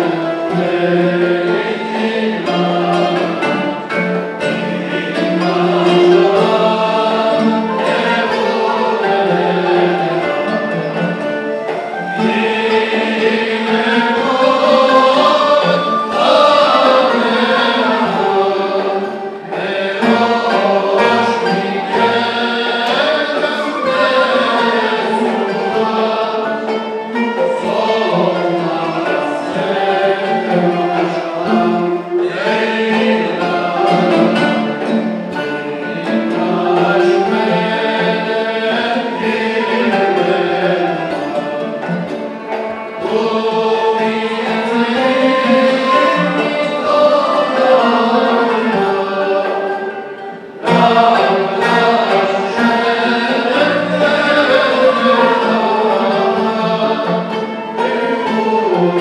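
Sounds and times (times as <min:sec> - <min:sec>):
mixed choir singing a hymn: 0:00.0 - 0:59.0
traditional instruments playing: 0:00.0 - 0:59.0.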